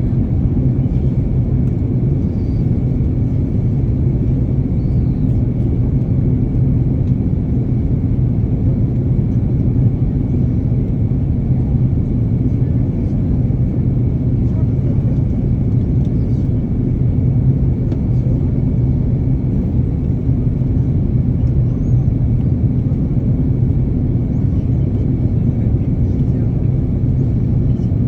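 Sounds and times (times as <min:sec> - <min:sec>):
airplane engines rumbling: 0:00.0 - 0:28.0.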